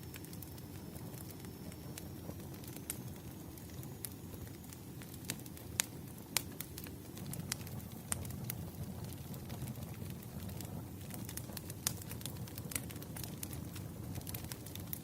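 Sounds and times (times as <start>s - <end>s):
low rumble of burning wood: 0.0s - 15.0s.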